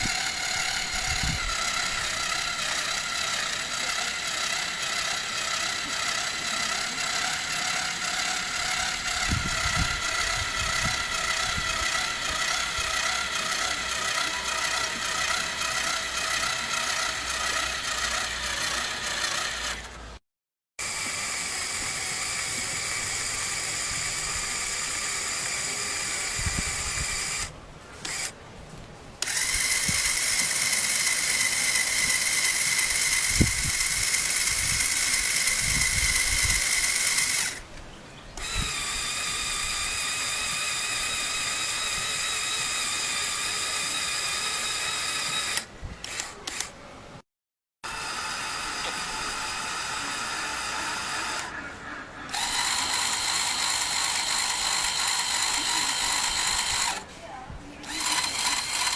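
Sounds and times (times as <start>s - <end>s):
small motors and gears whirring: 0.0s - 20.2s, 20.8s - 28.4s, 29.2s - 46.8s, 47.8s - 58.9s.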